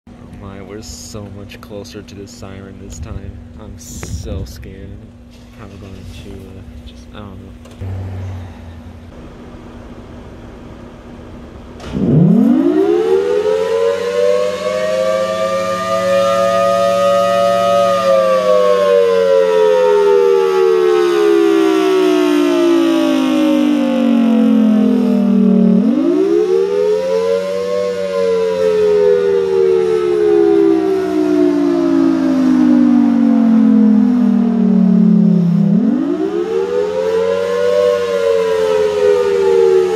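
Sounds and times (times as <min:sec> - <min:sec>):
warning siren rising and falling: 0:07.8 - 0:39.9.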